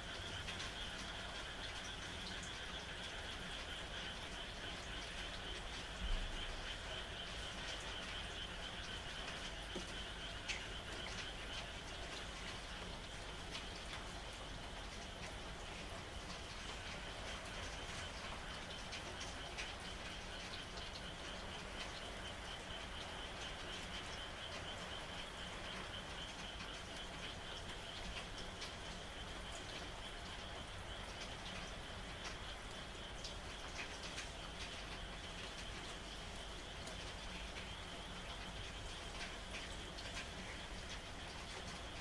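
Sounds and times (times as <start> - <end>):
light rain: 0.0 - 42.0
water drips: 0.1 - 42.0.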